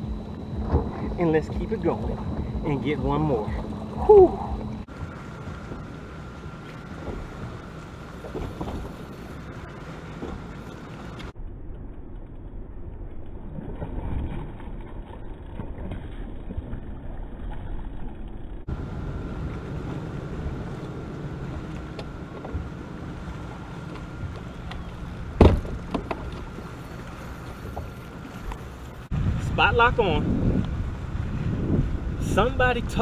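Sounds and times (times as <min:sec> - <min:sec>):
wind and water noise: 0:00.0 - 0:33.0.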